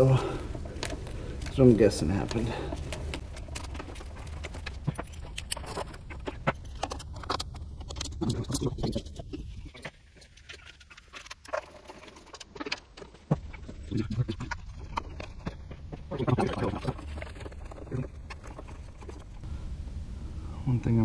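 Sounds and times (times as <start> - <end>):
rustling: 0.0 - 20.5.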